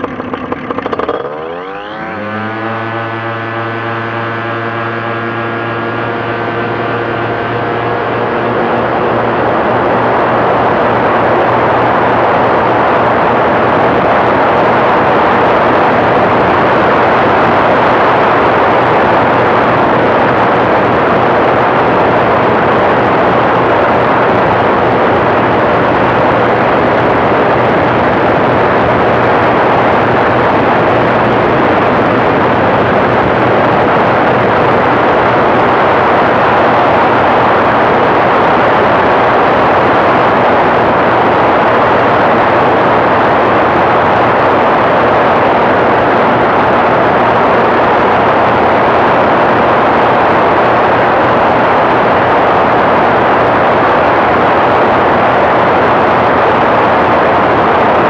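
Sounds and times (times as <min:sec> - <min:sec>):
aircraft engine and propeller: 0:00.0 - 0:58.0
faint low hum: 0:00.0 - 0:58.0
wind on microphone: 0:00.0 - 0:58.0.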